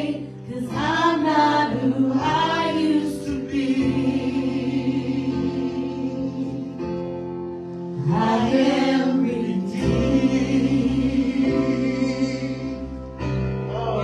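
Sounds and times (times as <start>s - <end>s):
sustained keyboard chords: 0.0s - 14.0s.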